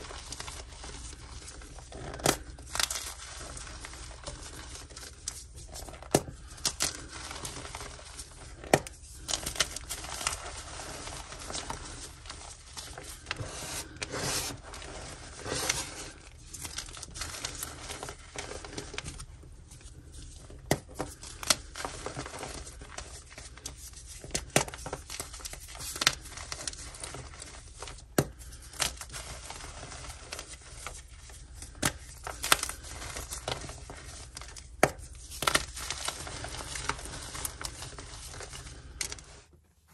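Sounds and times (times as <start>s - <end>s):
chalk crunching and crumbling: 0.0s - 39.5s.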